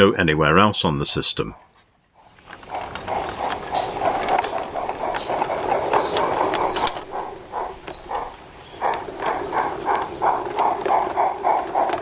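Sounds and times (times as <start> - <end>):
model train wheels clicking: 2.4 - 12.0.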